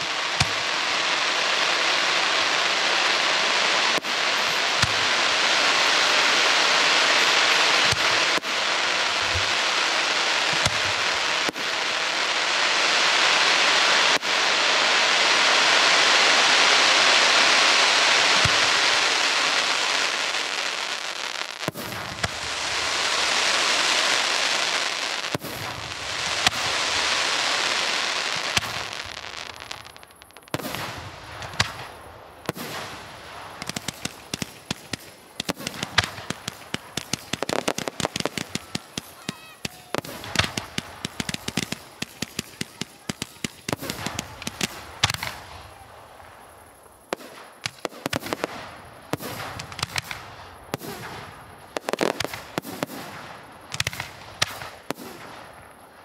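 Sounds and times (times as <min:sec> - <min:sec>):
firework bangs and pops: 0:00.0 - 0:56.0
firework crackling hiss: 0:00.0 - 0:56.0.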